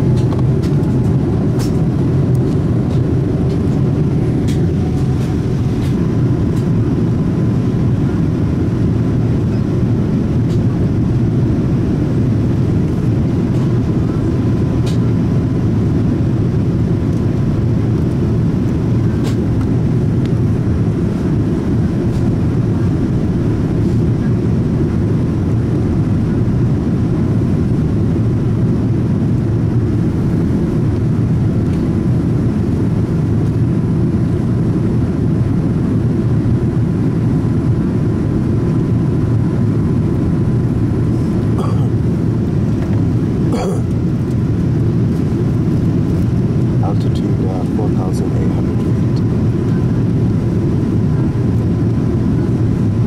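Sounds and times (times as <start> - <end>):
airplane cabin engine rumble: 0.0 - 53.0.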